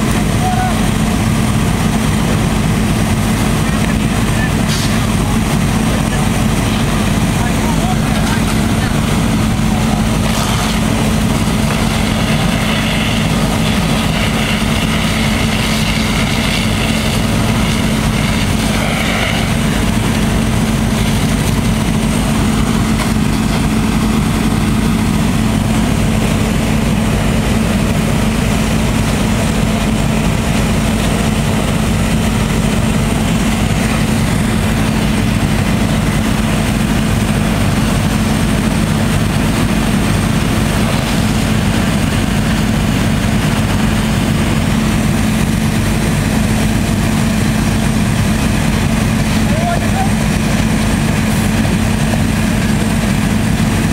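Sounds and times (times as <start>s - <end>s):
fire engine engine humming: 0.0s - 53.9s.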